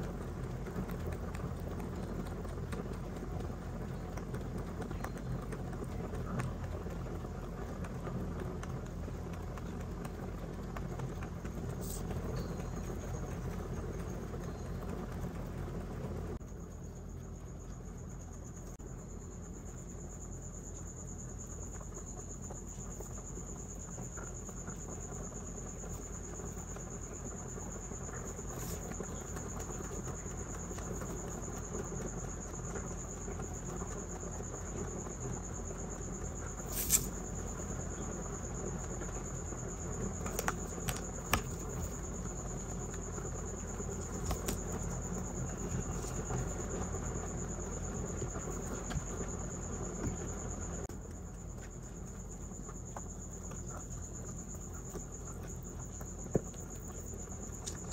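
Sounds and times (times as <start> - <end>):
rabbits chewing hay: 0.0 - 16.4, 17.1 - 57.9.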